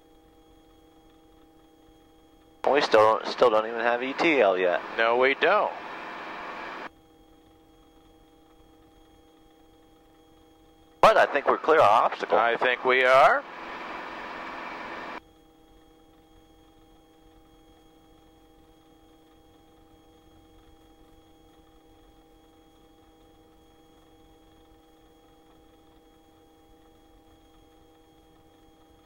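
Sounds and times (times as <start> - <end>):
faint hum with steady tones: 0.0 - 29.0.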